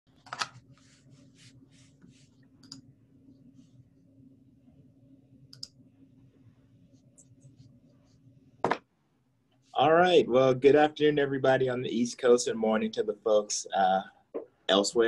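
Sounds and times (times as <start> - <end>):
low steady hum: 0.4 - 15.0.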